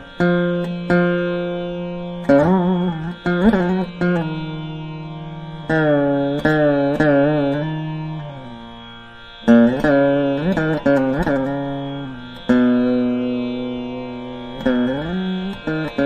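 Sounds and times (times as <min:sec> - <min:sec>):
veena playing slow melody: 0:00.0 - 0:16.0.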